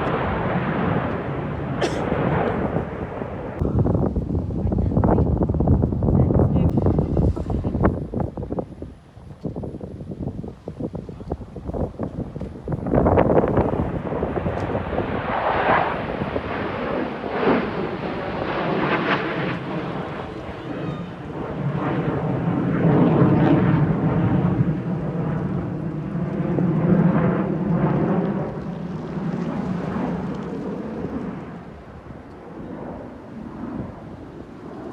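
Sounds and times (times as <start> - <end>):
fighter jet flying past: 0.0 - 34.9.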